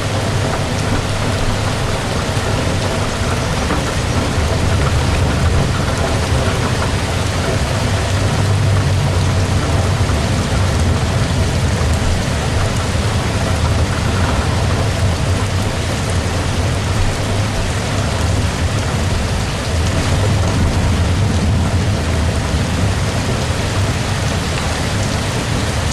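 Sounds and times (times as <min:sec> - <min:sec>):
deep low rumble: 0:00.0 - 0:25.9
heavy rain falling: 0:00.0 - 0:25.9.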